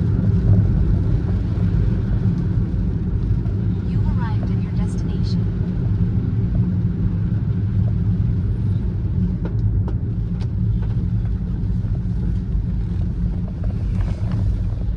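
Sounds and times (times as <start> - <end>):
car road and engine rumble: 0.0 - 14.9.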